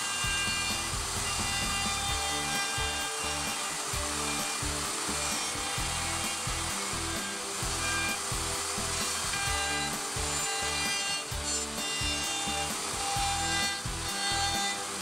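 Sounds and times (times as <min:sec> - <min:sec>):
background music: 0:00.0 - 0:15.0
router cutting wood: 0:00.0 - 0:15.0.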